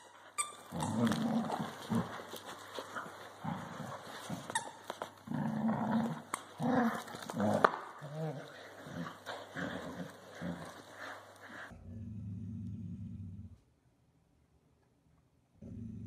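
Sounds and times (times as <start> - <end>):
dogs growling: 0.6 - 13.6.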